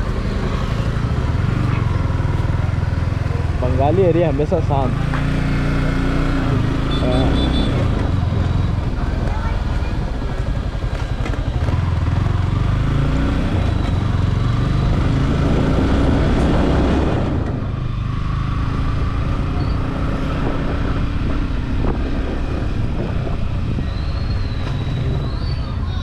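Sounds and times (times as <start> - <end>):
motorcycle running: 0.0 - 26.0.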